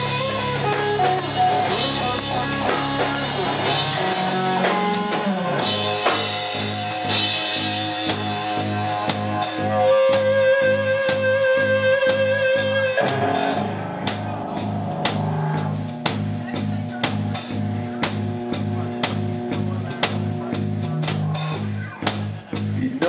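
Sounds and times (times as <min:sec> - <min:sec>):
bass guitar: 0:00.0 - 0:23.0
lead guitar: 0:00.0 - 0:23.0
steady drum beat: 0:00.0 - 0:23.0.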